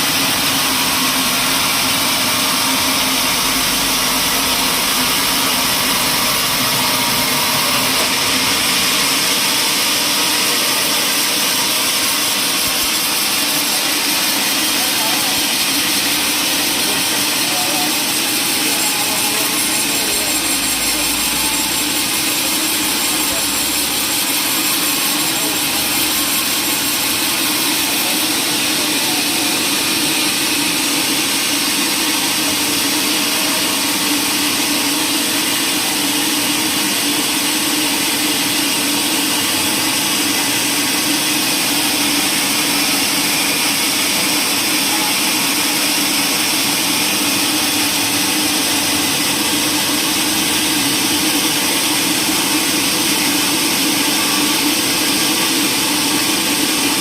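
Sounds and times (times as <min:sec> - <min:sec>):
woodworking machine hissing and humming: 0:00.0 - 0:57.0.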